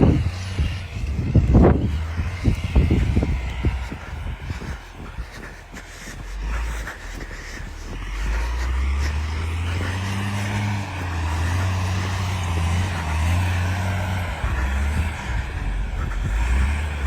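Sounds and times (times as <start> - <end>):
snow-clearing machine engine drone: 0.0 - 17.0.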